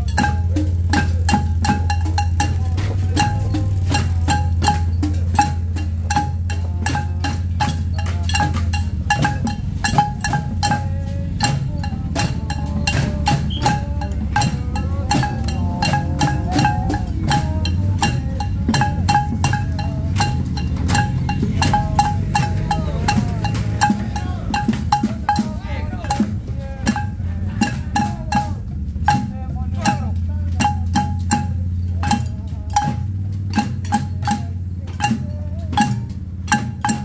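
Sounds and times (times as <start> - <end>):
pots and pans beaten with sticks: 0.0 - 37.0.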